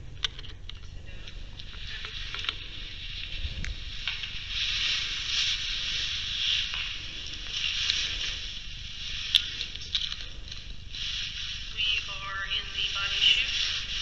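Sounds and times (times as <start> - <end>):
fabric rustling: 1.0 - 14.0.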